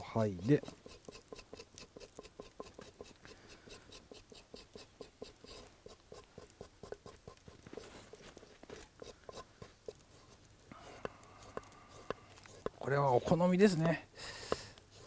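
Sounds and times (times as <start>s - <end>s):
knife scraping root skin: 0.0s - 15.0s.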